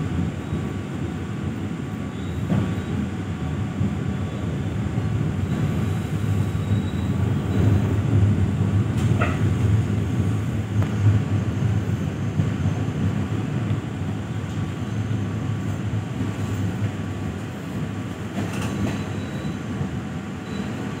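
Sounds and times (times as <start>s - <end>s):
train carriage rumble: 0.0s - 21.0s.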